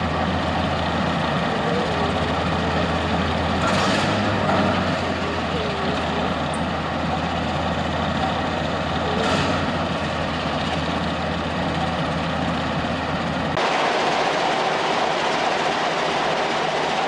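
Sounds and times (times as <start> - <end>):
diesel locomotive engine idling: 0.0 - 17.0
hissy engine rumble: 0.0 - 17.0.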